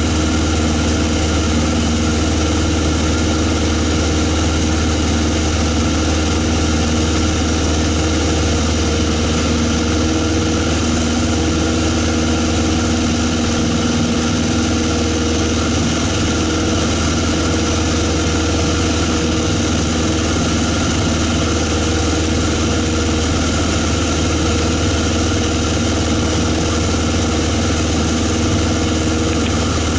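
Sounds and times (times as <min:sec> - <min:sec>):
light aircraft engine drone: 0:00.0 - 0:29.9.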